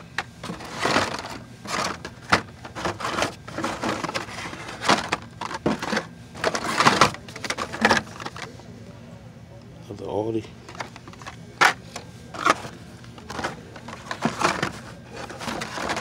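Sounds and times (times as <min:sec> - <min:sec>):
plastic blister packs rustling: 0:00.0 - 0:08.5, 0:10.7 - 0:16.0.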